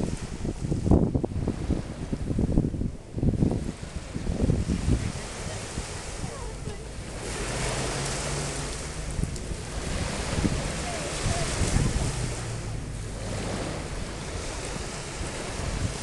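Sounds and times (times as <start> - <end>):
small waves washing onto beach: 0.0 - 16.0
wind buffeting microphone: 0.0 - 16.0.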